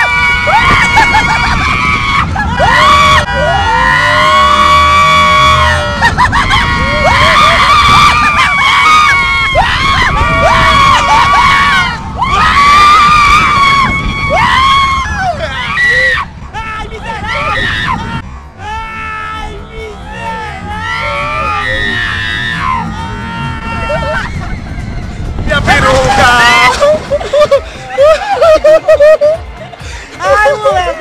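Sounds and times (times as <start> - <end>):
riders screaming: 0.0 - 29.4
steady low rumble: 0.0 - 31.0.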